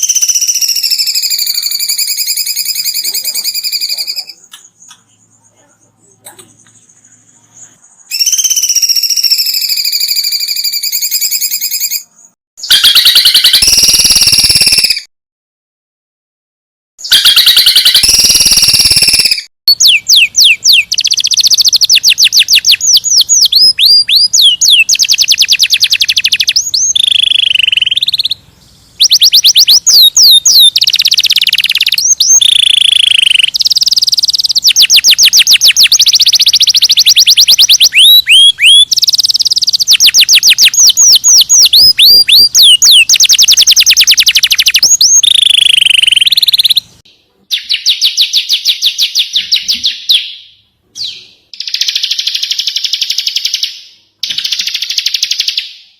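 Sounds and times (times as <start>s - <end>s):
songbird chirping: 0.0s - 15.1s, 17.0s - 55.9s.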